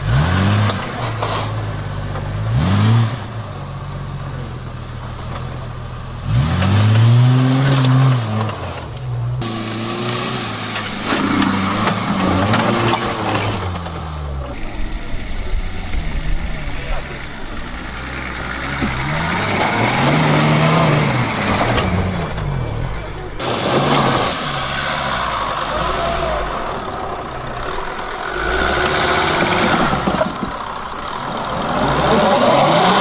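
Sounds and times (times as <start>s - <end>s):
off-road vehicle engine revving: 0.0s - 33.0s.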